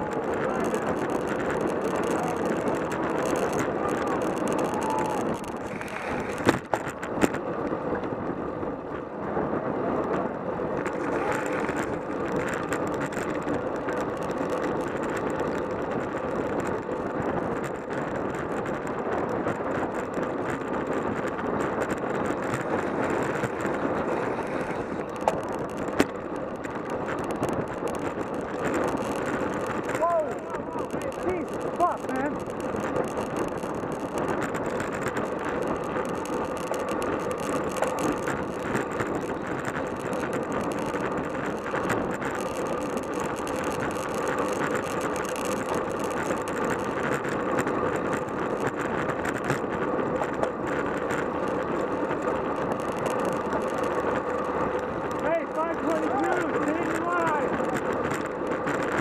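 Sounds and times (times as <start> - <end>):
sharp bicycle clicks: 0.0 - 59.0
wind and tyre noise: 0.0 - 59.0.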